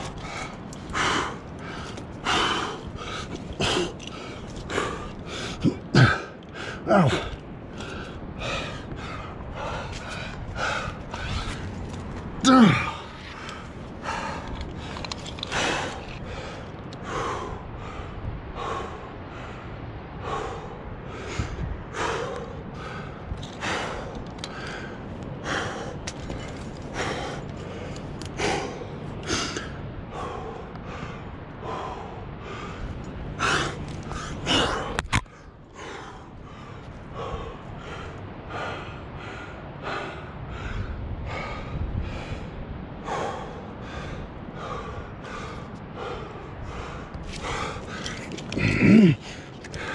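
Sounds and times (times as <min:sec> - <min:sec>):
person breathing hard: 0:00.0 - 0:49.9.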